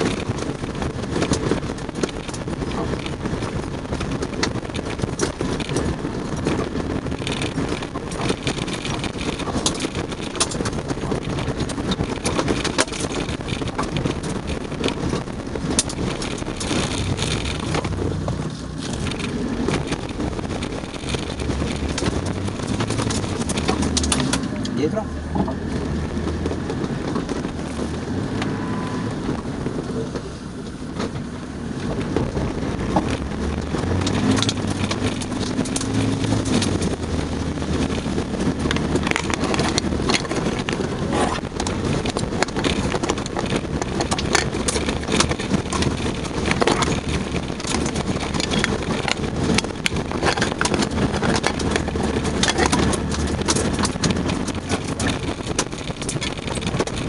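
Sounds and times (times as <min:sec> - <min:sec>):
clicks and knocks over gravel: 0:00.0 - 0:28.4, 0:30.9 - 0:57.0
tyres on gravel: 0:00.0 - 0:57.0
vehicle engine running low: 0:00.0 - 0:57.0.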